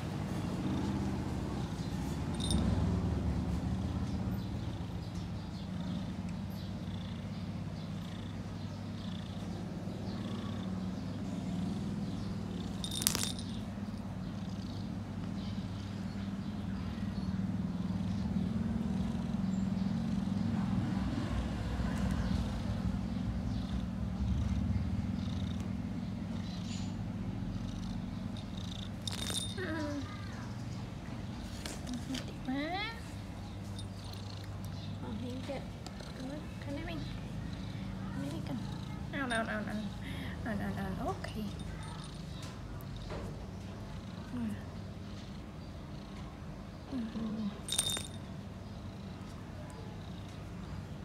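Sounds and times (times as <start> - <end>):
kitten purring: 0.3 - 51.0.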